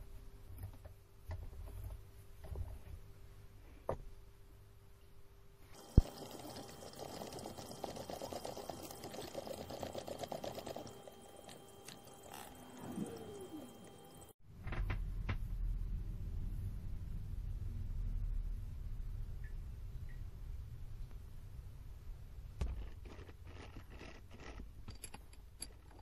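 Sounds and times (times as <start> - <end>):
steady low hum: 2.7 - 24.5.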